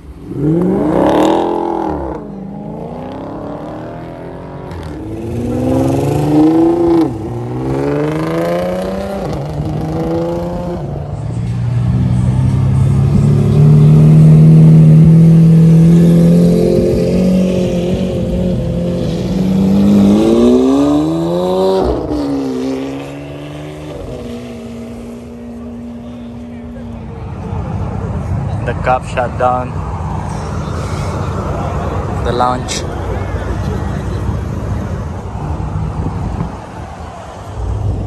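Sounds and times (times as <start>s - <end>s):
sports cars accelerating hard: 0.1s - 11.2s, 11.9s - 38.0s.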